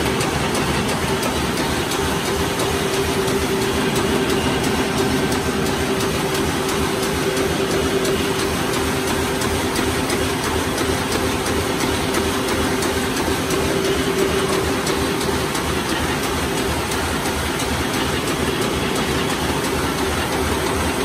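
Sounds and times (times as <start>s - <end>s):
fast regular clicking: 0.0s - 21.0s
machine hum: 0.0s - 21.0s
stitching machine clattering: 0.0s - 21.0s.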